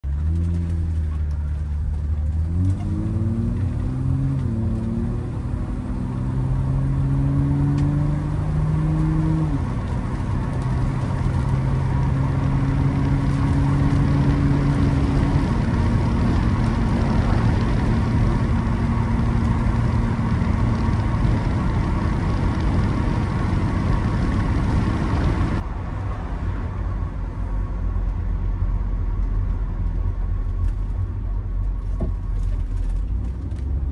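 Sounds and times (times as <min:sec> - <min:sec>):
car engine accelerating: 0:00.0 - 0:33.9
tyre and road noise: 0:00.0 - 0:33.9.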